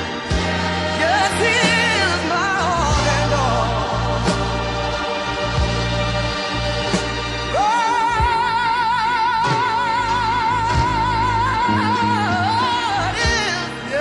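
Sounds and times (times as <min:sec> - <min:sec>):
musical accompaniment: 0:00.0 - 0:14.0
person singing gospel: 0:00.0 - 0:14.0.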